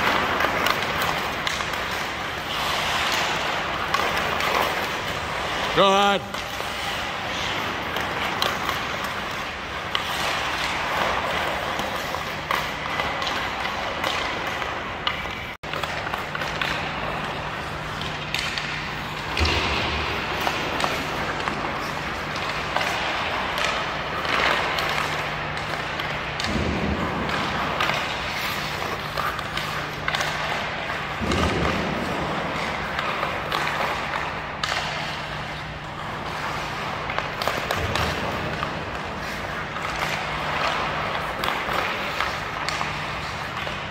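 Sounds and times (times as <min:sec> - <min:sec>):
low rink hum: 0:00.0 - 0:43.9
skate blades scraping ice: 0:00.0 - 0:43.9
stick tapping puck: 0:00.0 - 0:43.9.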